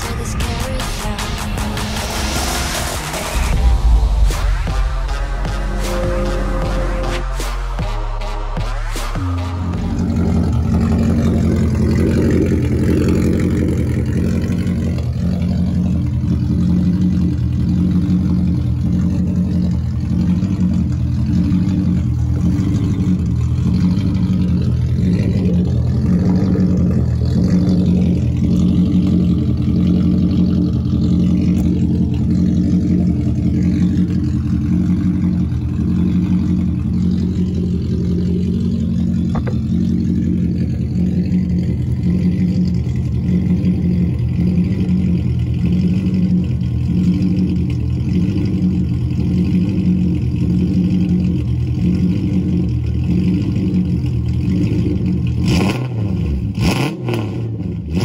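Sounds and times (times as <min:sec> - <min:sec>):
car engine idling with pulsing beat: 0:00.0 - 0:58.0.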